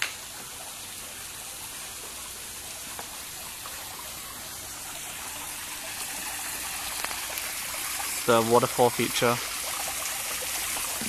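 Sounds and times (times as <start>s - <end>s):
waterfall splashing into pond: 0.0s - 11.0s.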